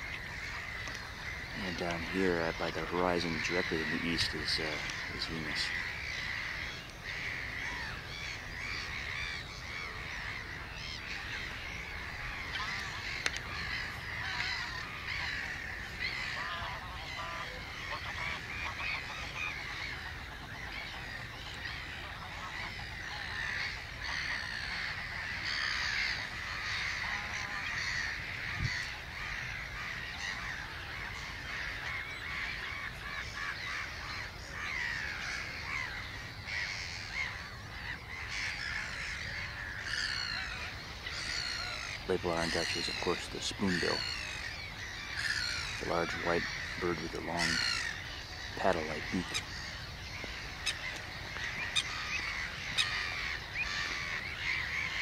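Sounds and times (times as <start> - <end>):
geese honking: 0.0 - 55.0
waterbirds calling: 0.0 - 55.0.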